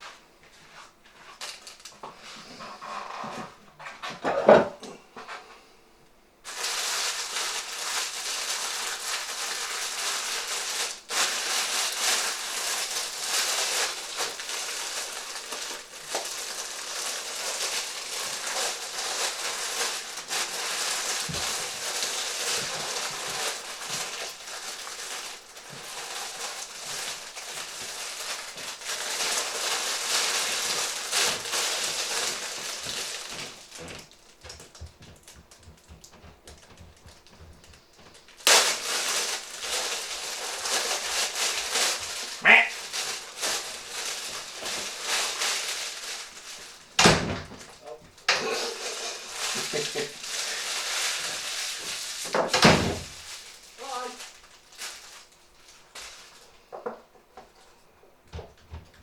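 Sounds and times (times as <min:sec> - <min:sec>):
plastic packaging crinkling: 0:01.2 - 0:03.3, 0:06.4 - 0:57.7.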